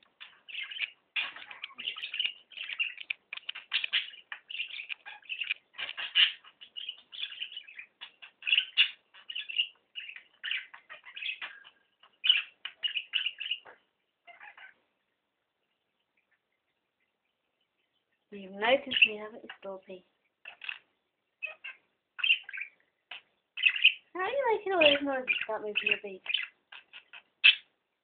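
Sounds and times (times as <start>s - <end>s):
budgerigar chattering and warbling: 0.0s - 14.8s, 18.7s - 19.7s, 20.4s - 27.7s.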